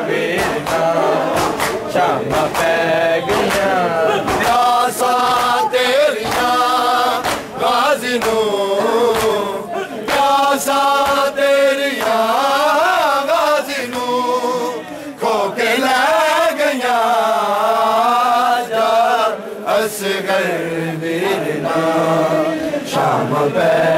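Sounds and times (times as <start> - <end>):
men chanting in unison: 0.0 - 23.9.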